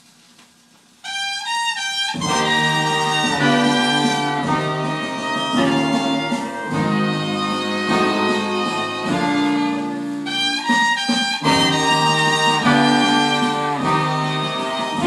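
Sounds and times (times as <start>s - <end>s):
instrumental blues with horns: 1.0s - 15.0s.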